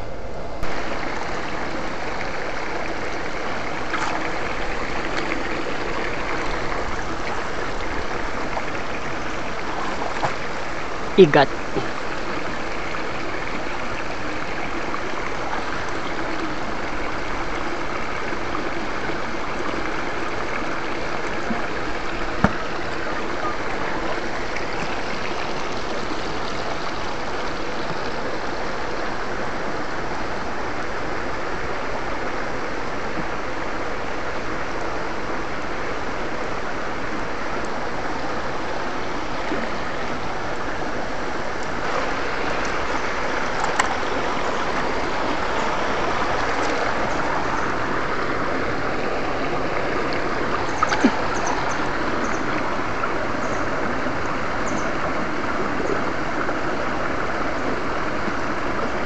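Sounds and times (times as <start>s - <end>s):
stream water rushing and gurgling: 0.0s - 59.0s.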